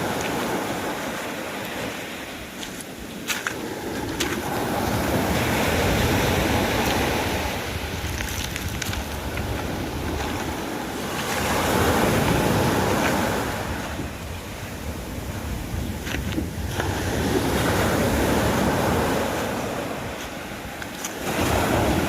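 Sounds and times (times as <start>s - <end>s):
sea waves washing onto beach: 0.0s - 22.0s
wind buffeting microphone: 0.0s - 22.0s.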